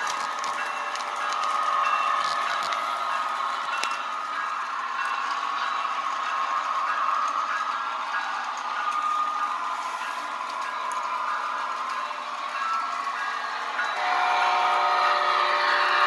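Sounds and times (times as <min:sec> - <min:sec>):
model train whirring on track: 0:00.0 - 0:16.0.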